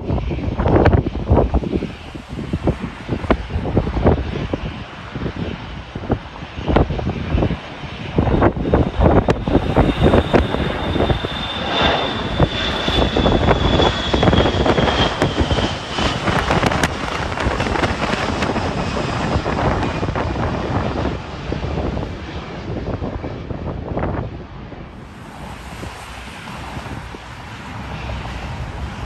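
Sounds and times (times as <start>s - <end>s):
jet airliner passing overhead: 0.0s - 29.0s
wind buffeting microphone: 0.0s - 29.0s.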